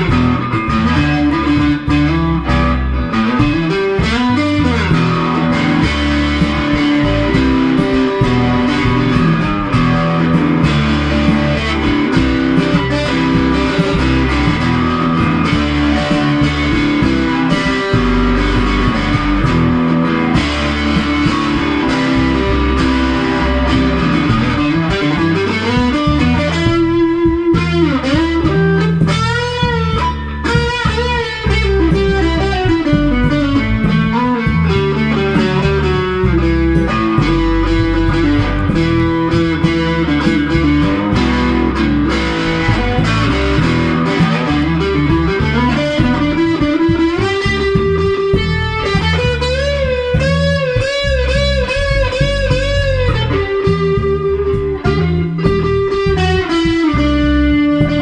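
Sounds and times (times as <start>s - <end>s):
electric guitar lead line: 0.0s - 58.0s
low accompanying guitar notes: 0.0s - 58.0s.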